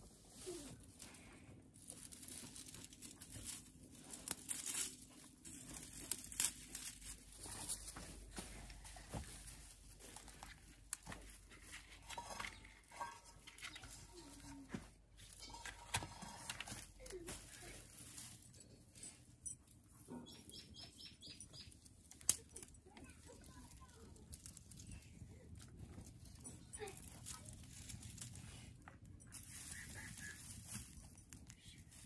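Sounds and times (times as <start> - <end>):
dry straw and twigs rustling: 0.0 - 32.0.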